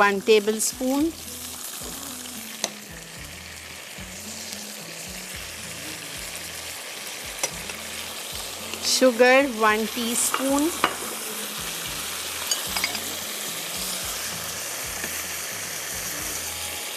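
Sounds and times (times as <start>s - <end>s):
sauce sizzling in hot oil: 0.0s - 16.9s.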